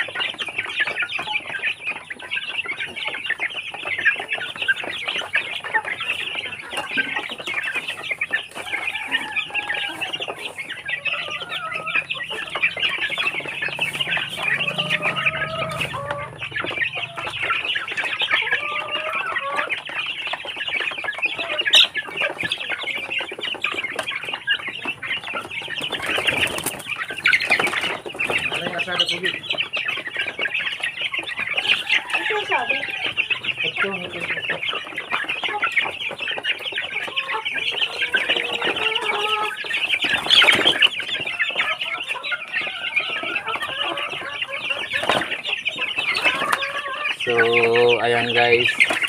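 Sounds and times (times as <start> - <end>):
beaks pecking feed: 0.0 - 49.0
chickens clucking: 0.0 - 49.0.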